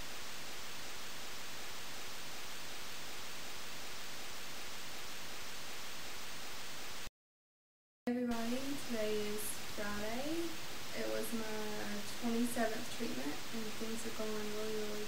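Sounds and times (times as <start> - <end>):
recording noise hiss: 0.0 - 7.1, 8.1 - 15.0.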